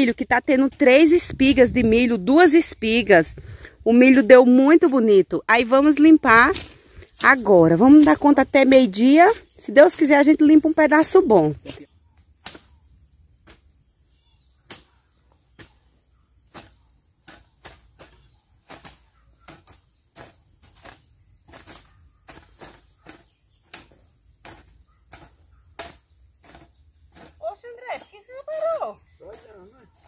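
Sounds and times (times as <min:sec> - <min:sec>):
hoe blade striking soil: 0:00.0 - 0:01.7, 0:04.1 - 0:10.0, 0:11.5 - 0:12.8, 0:13.4 - 0:13.7, 0:14.6 - 0:30.0.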